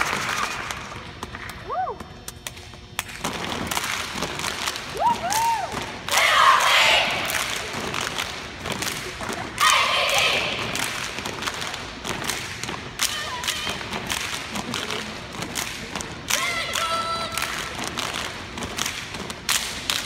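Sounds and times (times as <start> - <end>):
hand claps: 0.0 - 6.2, 7.1 - 20.0.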